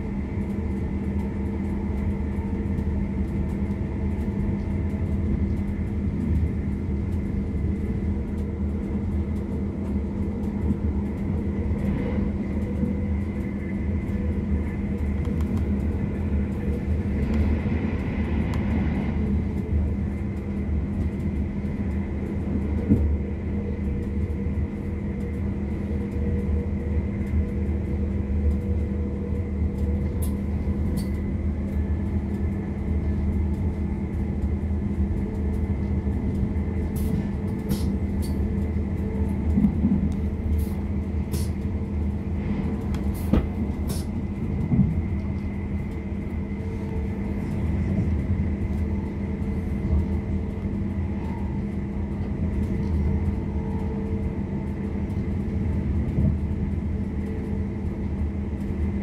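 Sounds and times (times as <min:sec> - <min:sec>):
train running gear rumble: 0:00.0 - 0:59.0.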